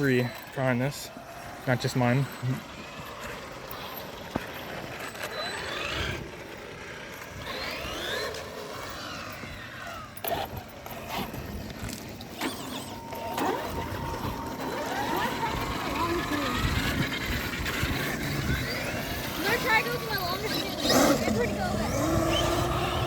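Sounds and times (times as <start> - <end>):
electric rc car motor whining: 0.0 - 23.0.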